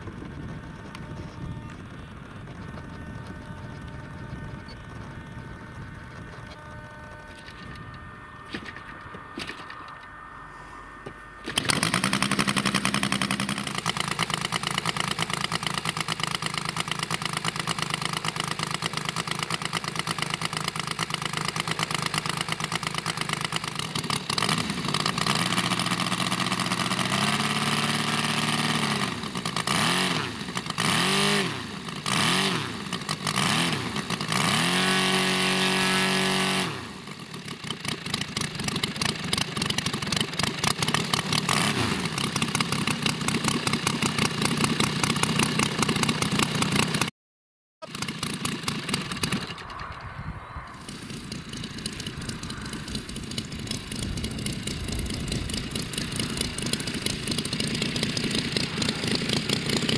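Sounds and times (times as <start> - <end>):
model aircraft engine revving: 0.0 - 47.1, 47.8 - 59.9.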